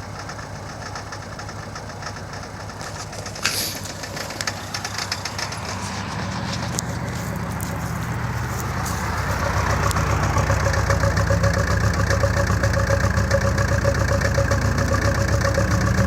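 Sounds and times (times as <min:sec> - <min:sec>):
car engine idling roughly: 0:00.0 - 0:16.0.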